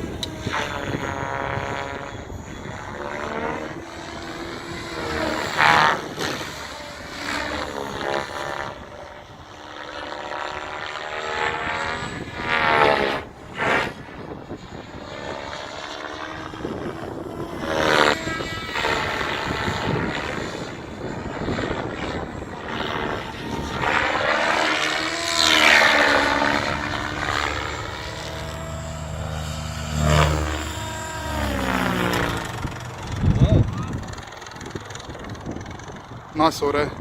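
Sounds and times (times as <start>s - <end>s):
rc helicopter rotor and motor whine: 0.0s - 37.0s.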